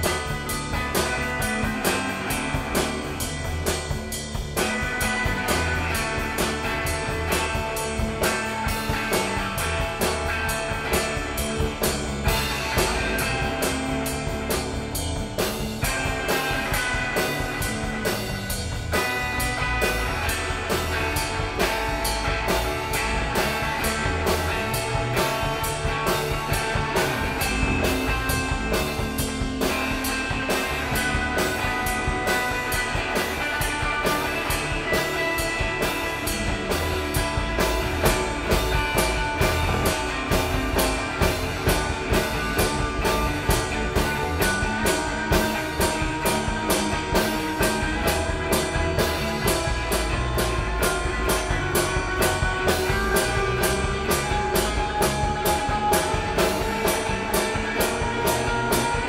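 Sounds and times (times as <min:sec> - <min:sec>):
instrumental band music: 0:00.0 - 0:59.0.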